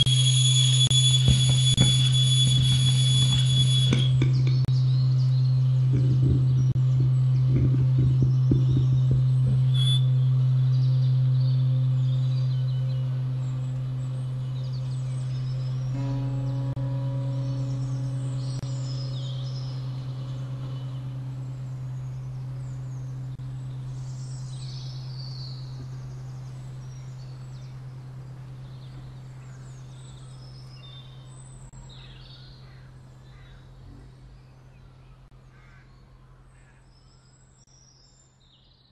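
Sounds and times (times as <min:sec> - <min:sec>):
steady low drone: 0:00.0 - 0:35.4
birds chirping: 0:00.9 - 0:38.1.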